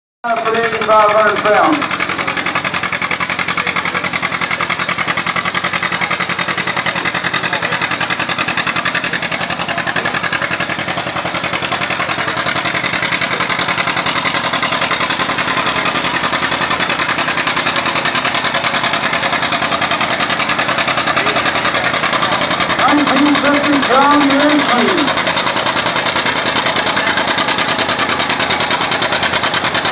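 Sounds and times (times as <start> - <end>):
tractor engine running: 0.2 - 29.9.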